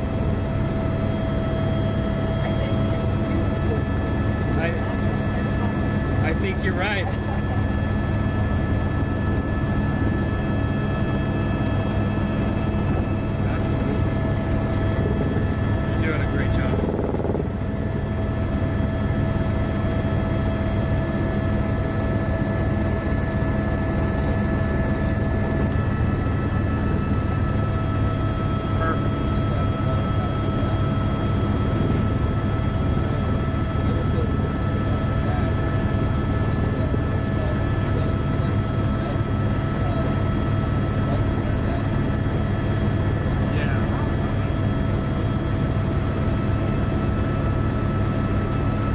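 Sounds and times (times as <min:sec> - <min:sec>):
aircraft engine hum in cabin: 0:00.0 - 0:48.9
constant whining tones: 0:00.0 - 0:48.9.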